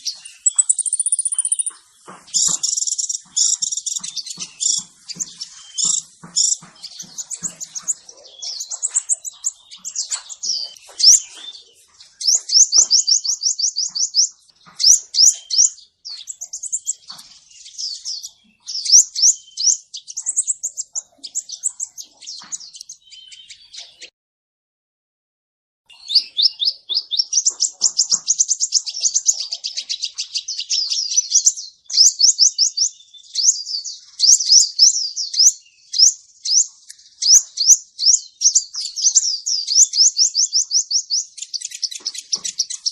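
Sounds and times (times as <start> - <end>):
bird chirps and trills: 0.0 - 24.1, 25.9 - 42.9.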